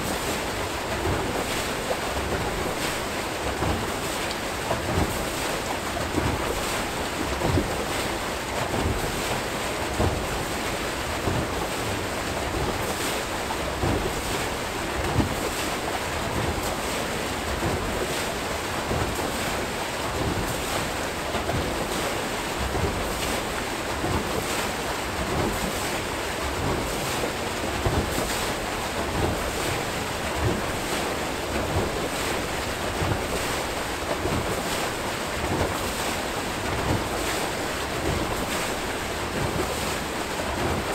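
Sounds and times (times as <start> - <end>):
water rushing and churning: 0.0 - 40.9
water splashes: 0.0 - 40.9.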